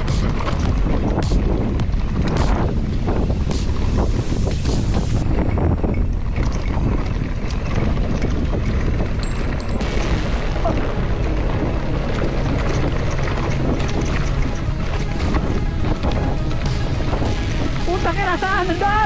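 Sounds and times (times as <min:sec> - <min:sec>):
mountain bike rumbling and rattling: 0:00.0 - 0:19.0
wind buffeting microphone: 0:00.0 - 0:19.0.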